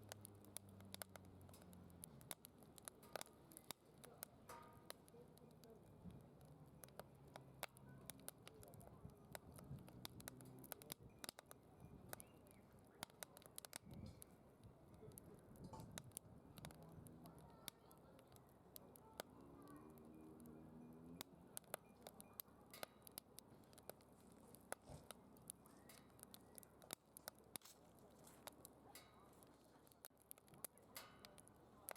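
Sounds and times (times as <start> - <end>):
wood fire crackling: 0.0 - 31.9
faint voices: 2.1 - 31.9.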